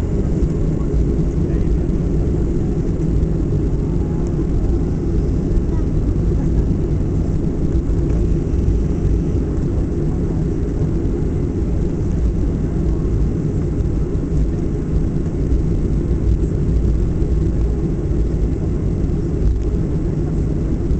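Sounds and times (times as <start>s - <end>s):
airplane rolling on taxiway: 0.0s - 20.9s
jet engines running at low power: 0.0s - 20.9s.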